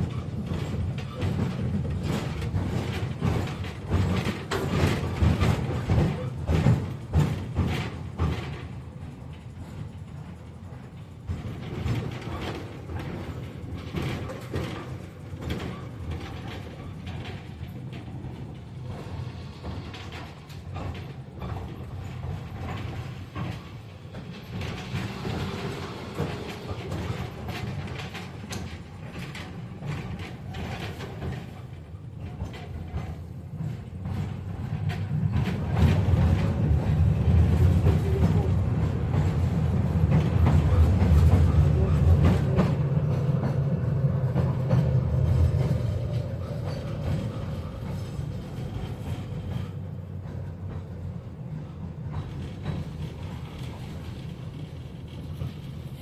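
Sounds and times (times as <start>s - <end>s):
tram wheels rumbling on track: 0.0s - 56.0s.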